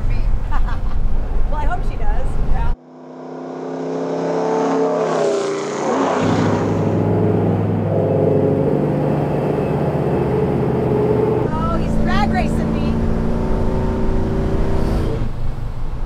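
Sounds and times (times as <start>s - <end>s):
road and wind noise: 0.0s - 16.0s
truck engine droning: 2.8s - 16.0s.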